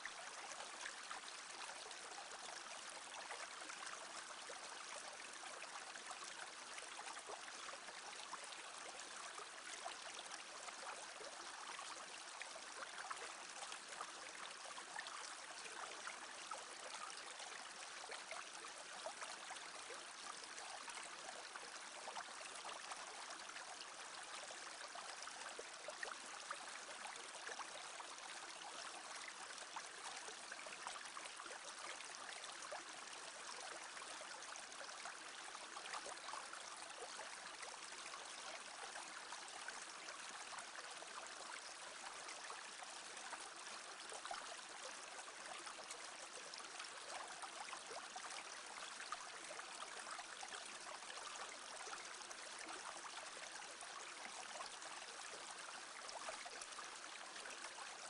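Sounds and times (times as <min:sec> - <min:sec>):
brook babbling: 0:00.0 - 0:58.0.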